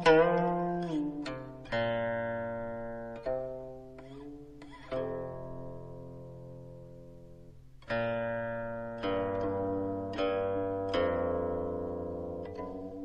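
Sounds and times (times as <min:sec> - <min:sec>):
plucked string instrument notes: 0:00.0 - 0:13.0.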